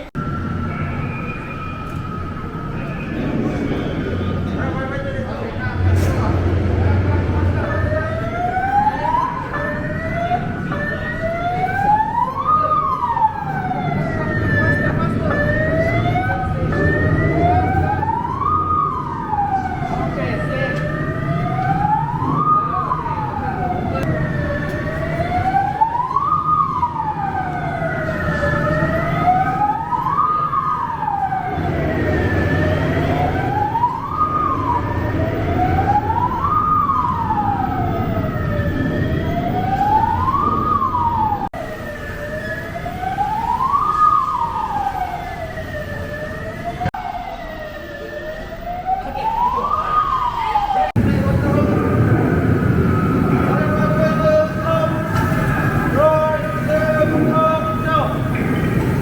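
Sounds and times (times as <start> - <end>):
fire engine siren wailing: 0.0 - 59.0.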